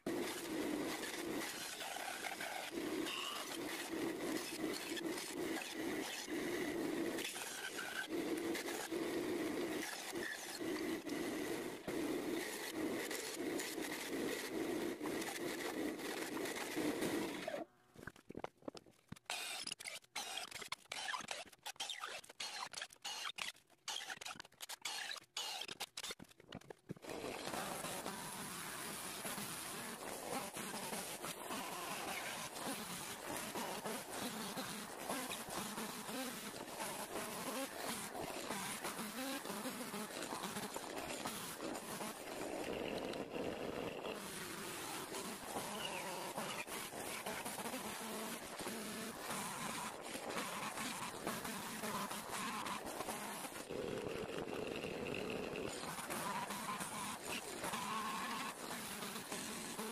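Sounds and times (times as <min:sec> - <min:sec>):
bandsaw running: 0:00.0 - 0:17.7, 0:27.0 - 0:59.9.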